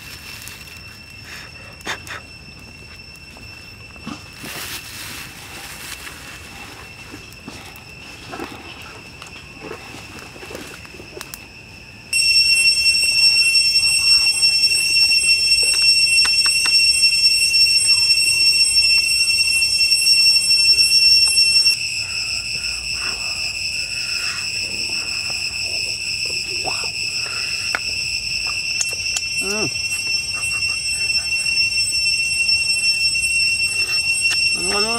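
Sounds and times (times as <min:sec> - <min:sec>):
high-pitched insect drone: 0:00.0 - 0:34.9.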